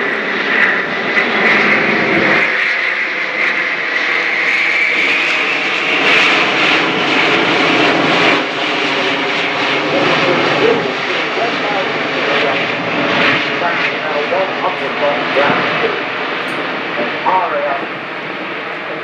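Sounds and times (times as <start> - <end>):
jet engine roar and whine: 0.0 - 19.0.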